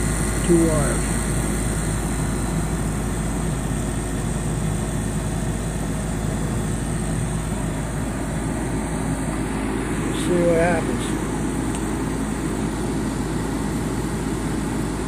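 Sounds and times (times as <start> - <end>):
machine running with low rumble: 0.0 - 15.0.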